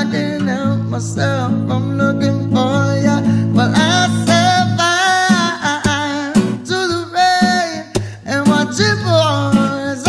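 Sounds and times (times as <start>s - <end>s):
reggae song with vocals: 0.0s - 10.0s.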